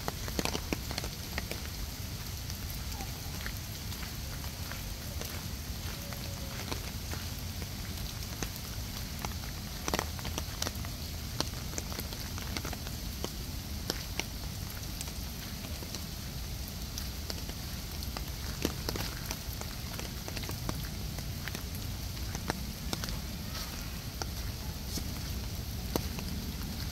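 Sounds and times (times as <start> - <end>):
water splashing from fountains: 0.0 - 26.9.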